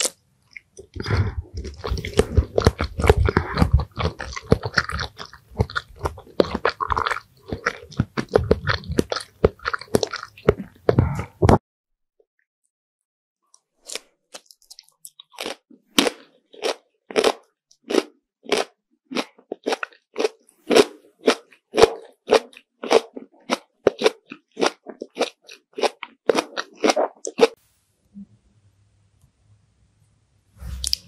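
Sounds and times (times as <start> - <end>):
mouth chewing crisp treat: 0.0 - 11.6, 13.8 - 27.6.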